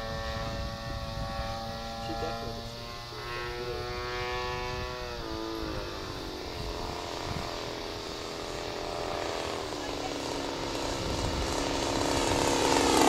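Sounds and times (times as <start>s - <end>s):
model airplane motor droning: 0.0s - 13.0s.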